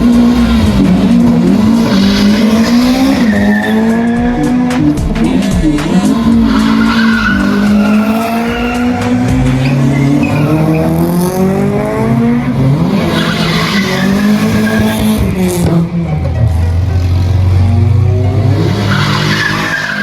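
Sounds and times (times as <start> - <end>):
car engine at high revs: 0.0 - 20.0
tyres squealing and skidding: 0.0 - 20.0.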